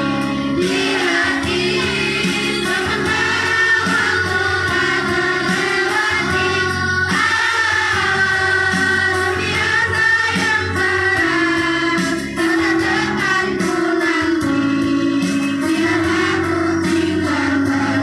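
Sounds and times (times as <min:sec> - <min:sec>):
children's choir singing: 0:00.0 - 0:18.0
instrumental accompaniment: 0:00.0 - 0:18.0.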